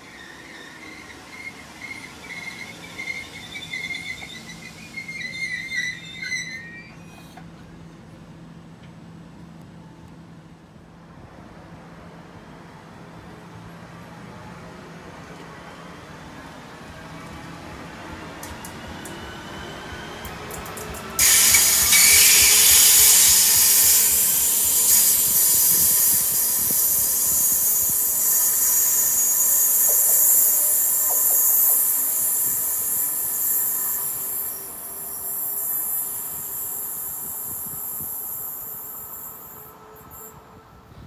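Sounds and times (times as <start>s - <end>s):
wheels squealing on rails: 0.0s - 7.9s, 15.1s - 41.0s
electric train passing: 7.5s - 41.0s.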